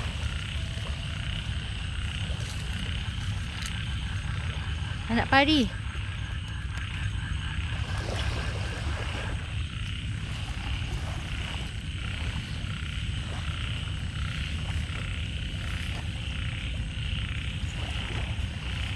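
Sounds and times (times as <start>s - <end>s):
frogs calling: 0.0s - 18.9s
steady low rumble: 0.0s - 18.9s.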